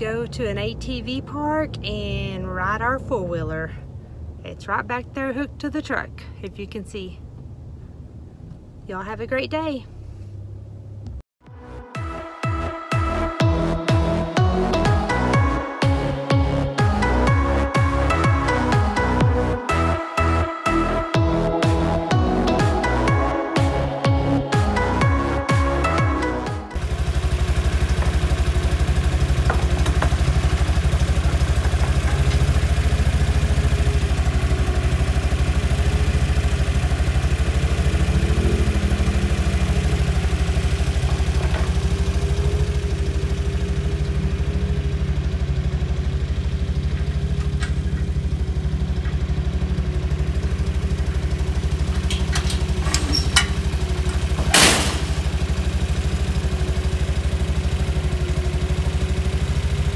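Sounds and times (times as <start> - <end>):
vehicle engine running: 0.0 - 11.2, 13.0 - 59.9.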